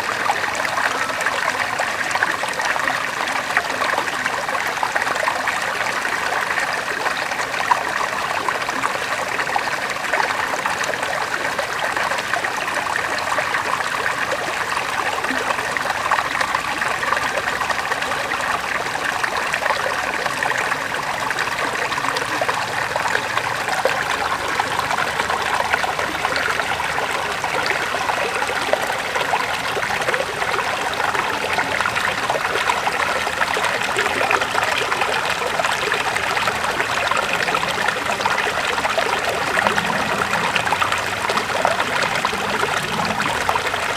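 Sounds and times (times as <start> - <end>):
river water flowing over rocks: 0.0 - 43.9.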